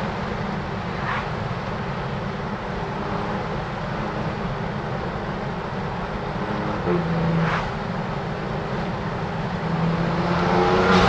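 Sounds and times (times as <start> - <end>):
car engine driving: 0.0 - 11.0
road noise: 0.0 - 11.0.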